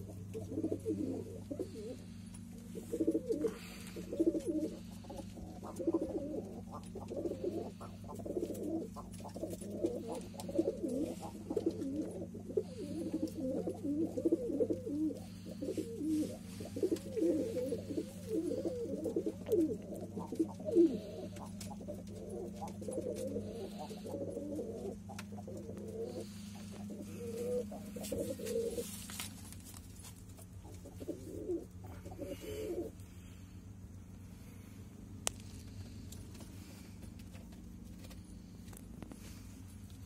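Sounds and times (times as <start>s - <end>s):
pigeons cooing: 0.0s - 40.0s
steady low hum: 0.0s - 40.0s.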